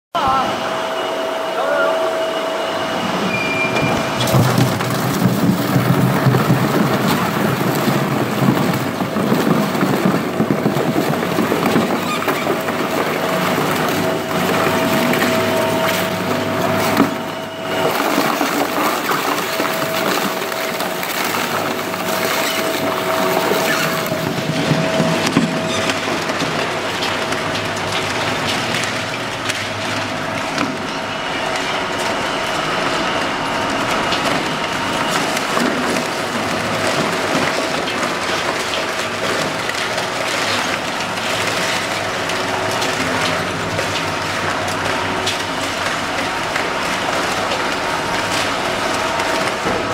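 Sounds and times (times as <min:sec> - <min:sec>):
steady machine whine: 0:00.1 - 0:49.9
shredder grinding sheet metal: 0:00.2 - 0:49.9.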